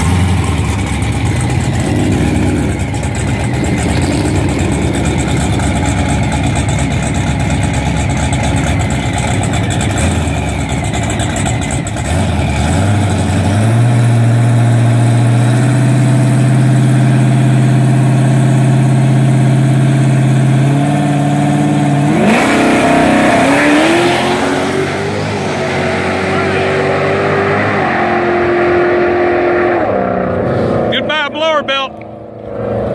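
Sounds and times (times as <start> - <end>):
drag car engine revving: 0.0 - 32.9.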